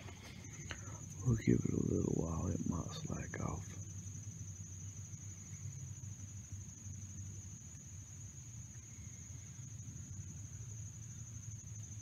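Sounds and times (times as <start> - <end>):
crickets trilling: 0.0 - 12.0
faint low rumble: 0.0 - 12.0.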